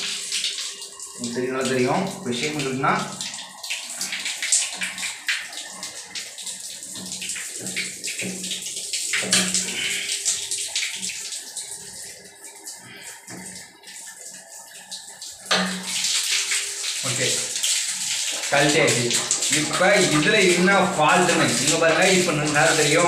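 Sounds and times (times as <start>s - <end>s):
water splashing onto tiled floor: 0.0s - 23.0s.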